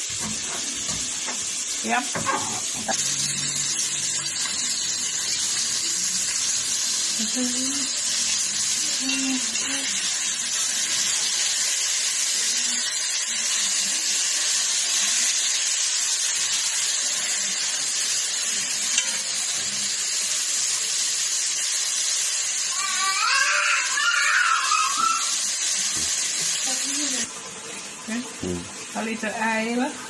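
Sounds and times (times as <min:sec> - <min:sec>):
food frying in hot oil: 0:00.0 - 0:30.0.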